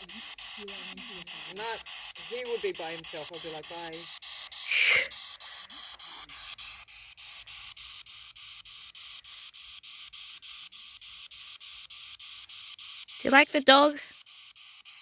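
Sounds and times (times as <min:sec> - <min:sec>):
chopped radio static hiss: 0:00.0 - 0:14.0.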